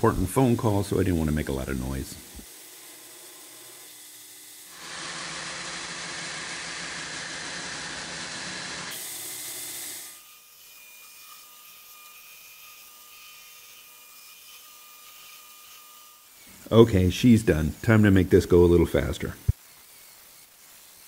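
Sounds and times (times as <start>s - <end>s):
grinder running with steady whine: 0.0s - 17.1s, 18.9s - 21.0s
belt grinder grinding steel: 1.6s - 21.0s.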